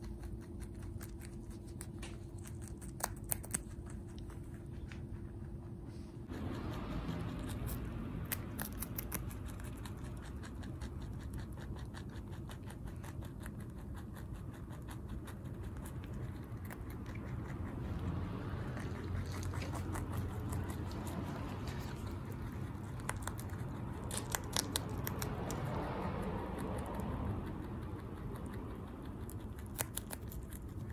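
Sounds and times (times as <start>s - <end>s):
rabbit chewing crunchily: 0.0s - 30.9s.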